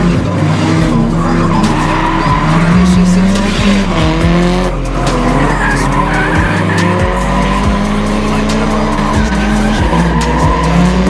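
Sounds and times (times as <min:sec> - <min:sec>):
car engines revving: 0:00.0 - 0:11.0
music with heavy bass: 0:00.0 - 0:11.0
tyres squealing: 0:00.7 - 0:11.0.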